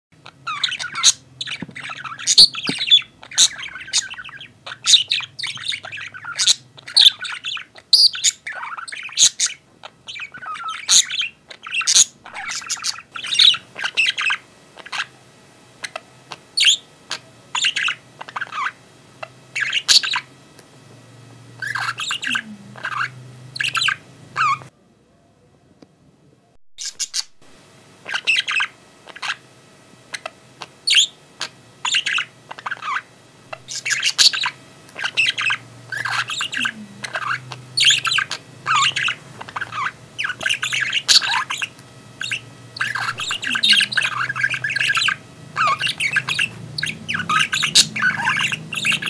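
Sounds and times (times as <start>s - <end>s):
birds chirping and squawking: 0.2s - 15.2s, 15.8s - 20.3s, 21.5s - 24.7s, 26.8s - 27.4s, 28.0s - 29.4s, 30.0s - 49.0s.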